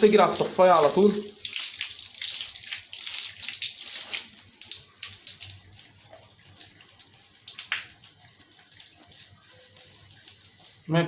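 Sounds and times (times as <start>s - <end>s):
tap water splashing in bathtub: 0.0s - 10.9s
water trickling into drain: 0.0s - 11.0s.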